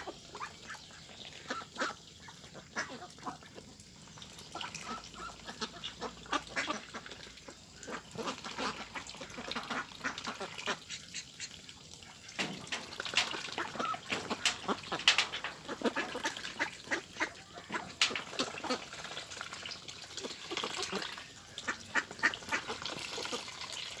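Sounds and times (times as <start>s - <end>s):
ducks quacking: 0.0s - 3.7s, 4.5s - 19.6s, 20.2s - 24.0s.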